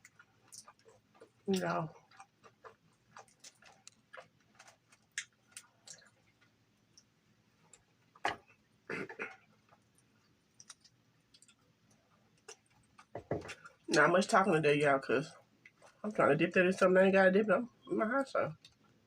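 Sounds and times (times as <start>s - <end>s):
chewing crispy fried chicken: 0.0s - 17.4s.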